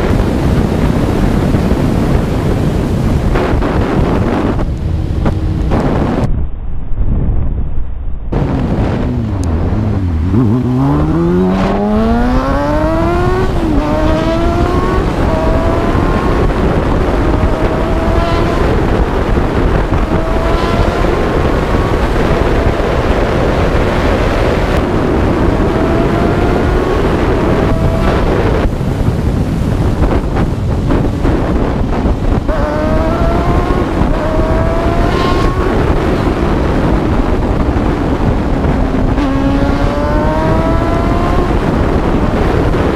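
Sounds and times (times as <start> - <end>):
motorcycle engine accelerating: 0.0 - 6.5, 8.3 - 42.9
wind rush on microphone: 0.0 - 42.9.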